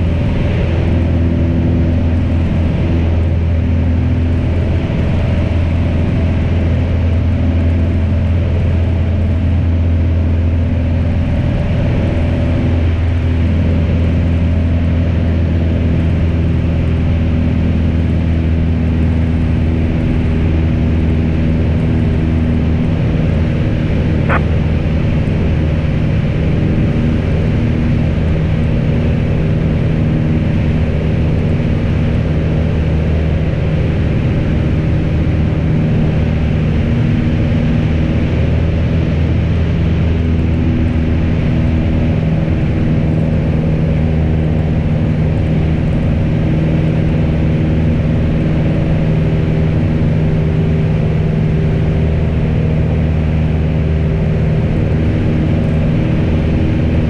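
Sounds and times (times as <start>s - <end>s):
propeller aircraft engine drone: 0.0s - 57.0s.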